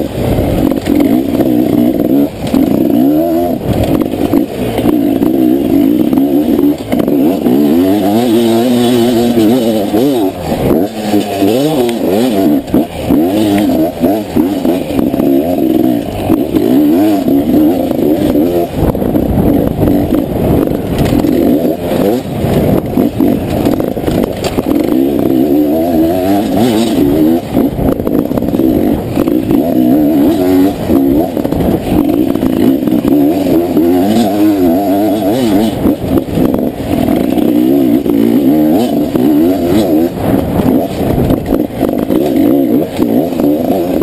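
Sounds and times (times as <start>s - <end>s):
bike rattling over bumps: 0.0s - 44.0s
motorcycle engine revving: 0.0s - 44.0s.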